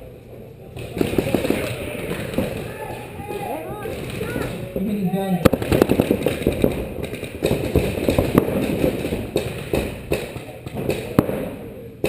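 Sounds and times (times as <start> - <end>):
paintball markers firing: 0.8 - 4.6, 5.4 - 11.6.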